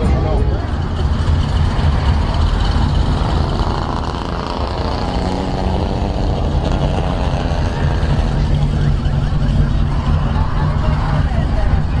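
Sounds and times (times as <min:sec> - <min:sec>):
motorcycle engine idling: 0:00.5 - 0:12.0.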